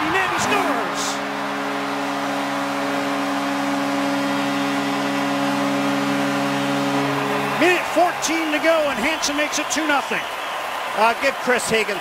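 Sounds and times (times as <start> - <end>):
goal horn chord: 0.0 - 10.1
crowd cheering: 0.0 - 12.0.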